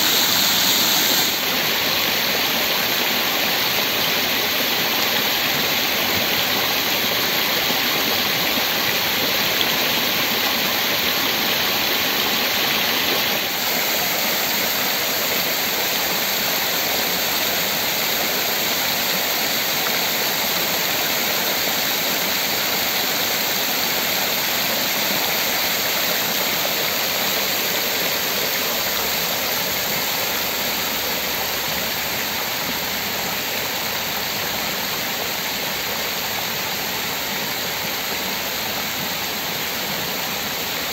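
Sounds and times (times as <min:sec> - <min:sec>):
fountain water jets splashing: 0:00.0 - 0:40.9.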